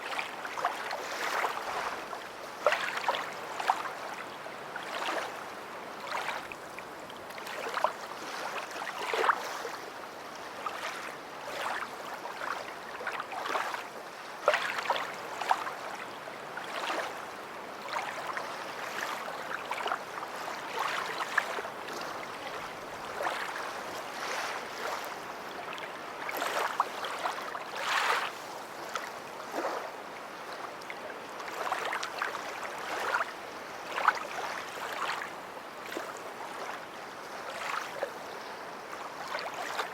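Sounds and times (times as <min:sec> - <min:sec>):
small waves lapping at shore: 0:00.0 - 0:39.9.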